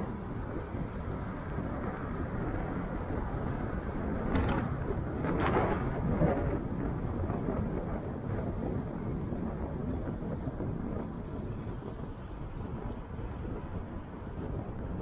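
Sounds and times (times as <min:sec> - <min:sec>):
road noise: 0:00.0 - 0:15.0
wind rumble on microphone: 0:00.0 - 0:15.0.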